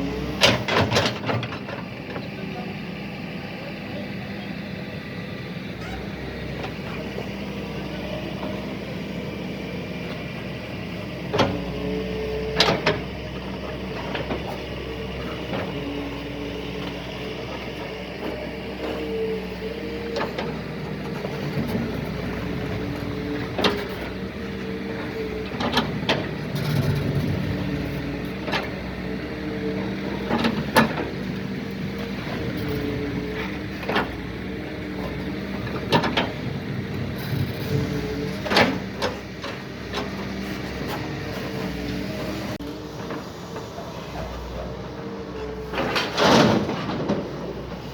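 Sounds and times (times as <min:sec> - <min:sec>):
excavator engine and hydraulics: 0:00.0 - 0:47.9.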